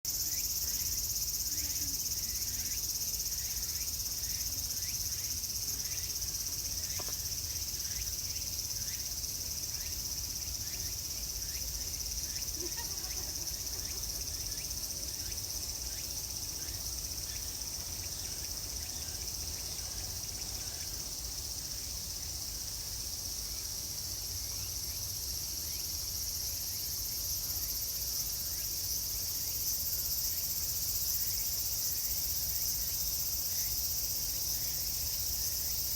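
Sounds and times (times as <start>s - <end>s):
cicadas buzzing: 0.1s - 35.9s.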